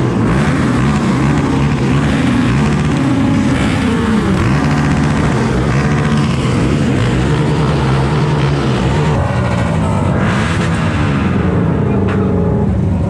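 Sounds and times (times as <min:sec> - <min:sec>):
vehicle engines revving: 0:00.0 - 0:13.0.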